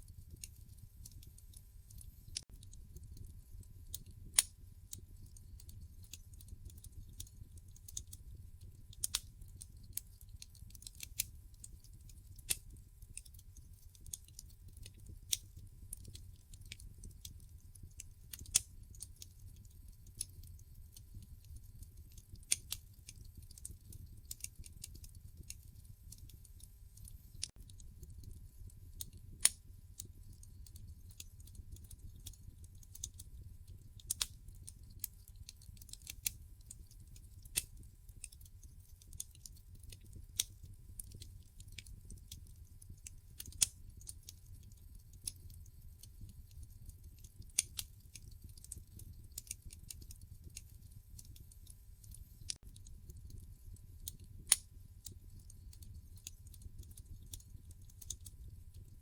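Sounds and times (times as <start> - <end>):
fireplace wood fire crackling: 0.0 - 59.0.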